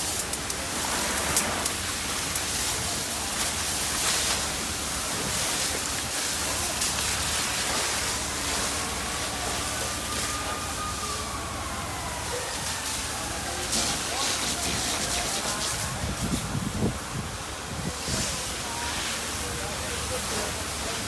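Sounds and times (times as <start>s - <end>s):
fire hose water spray: 0.0s - 21.0s.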